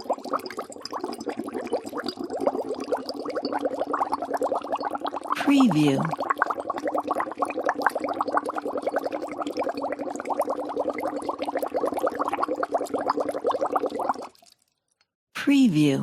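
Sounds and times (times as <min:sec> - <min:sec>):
water bubbling in a bowl: 0:00.0 - 0:14.9.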